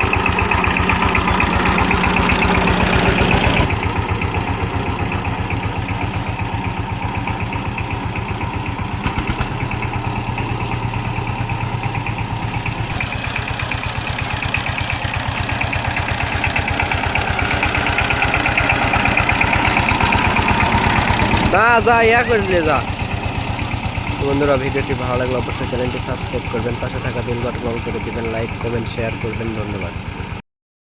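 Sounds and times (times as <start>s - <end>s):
diesel engine running: 0.0s - 30.4s.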